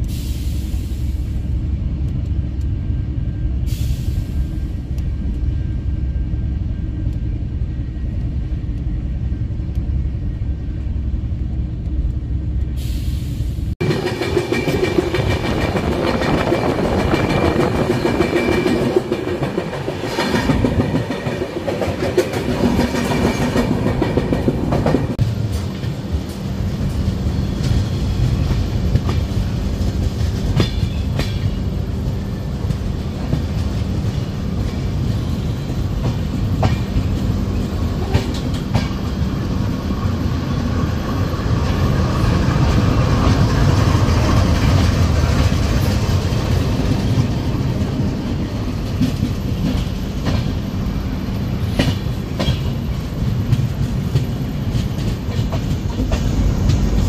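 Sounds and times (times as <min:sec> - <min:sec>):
passing locomotive and wagons: 0:00.0 - 0:57.0
train rumbling: 0:00.0 - 0:57.0.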